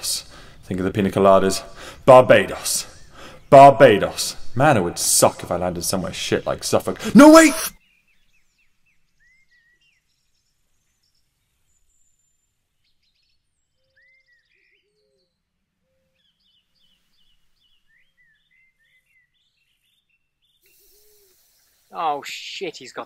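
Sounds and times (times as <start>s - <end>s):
lower repeated bird calls: 1.4s - 10.4s, 12.9s - 23.0s.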